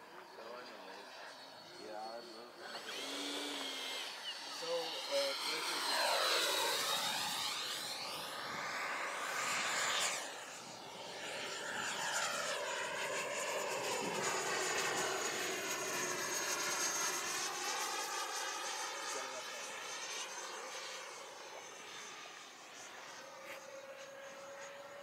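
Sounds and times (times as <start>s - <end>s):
model jet fan whine: 0.0s - 25.0s.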